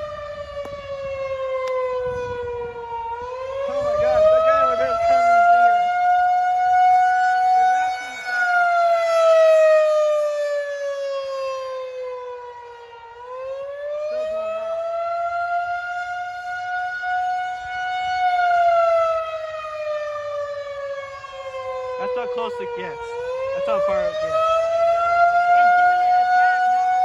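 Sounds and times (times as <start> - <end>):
rotating warning siren wailing: 0.0 - 27.0.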